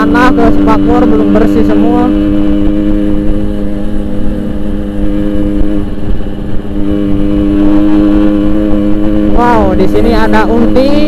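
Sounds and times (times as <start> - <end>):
two-stroke motorcycle cruising: 0.0 - 11.0.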